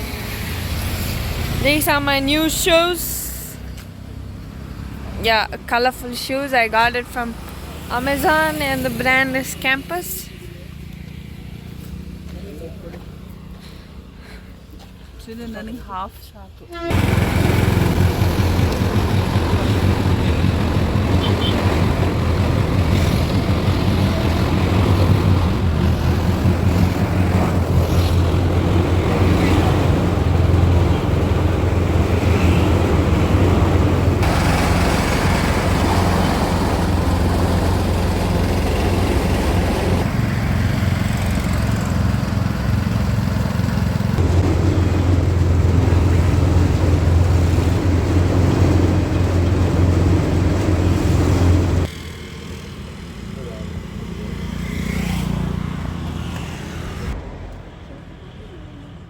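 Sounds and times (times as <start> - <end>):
car engine and road drone: 0.0 - 6.2, 16.9 - 59.0.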